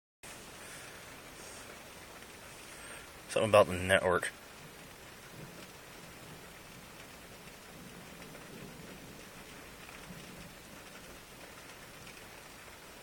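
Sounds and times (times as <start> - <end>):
light rain falling: 0.2 - 13.0
faint raindrop ticks: 0.6 - 13.0.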